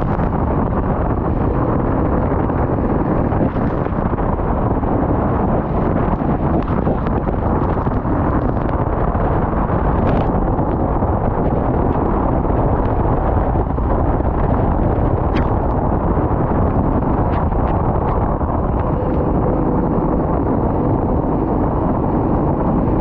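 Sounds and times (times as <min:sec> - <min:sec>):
go-kart engine running: 0:00.0 - 0:23.0
wind buffeting microphone: 0:00.0 - 0:23.0.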